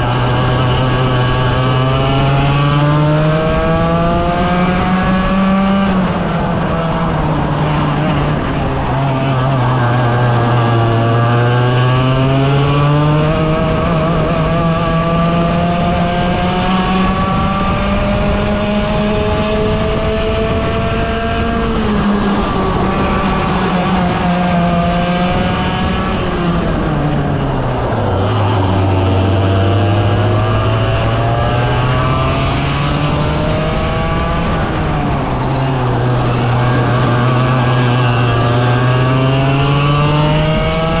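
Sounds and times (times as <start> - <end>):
racing kart engine at high revs: 0.0 - 41.0.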